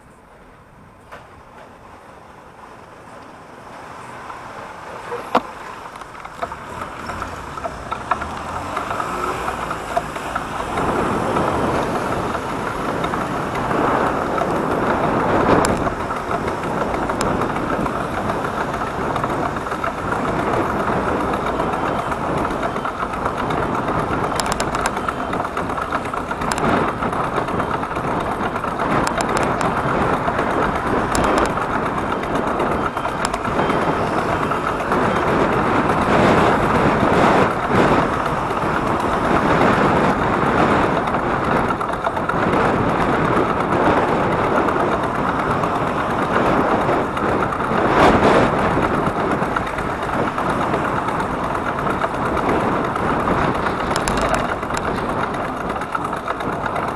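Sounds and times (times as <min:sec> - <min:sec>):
rushing road traffic noise: 0:00.0 - 0:56.9
faint clicks: 0:05.1 - 0:35.6, 0:40.8 - 0:56.9.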